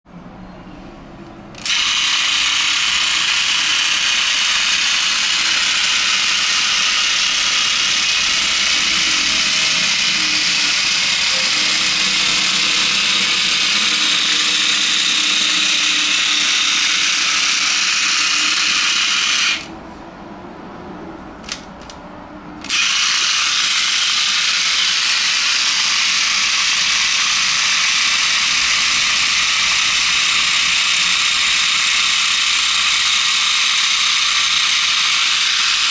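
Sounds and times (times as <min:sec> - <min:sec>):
toy motor and gears whirring: 0:01.6 - 0:19.7, 0:22.6 - 0:35.9.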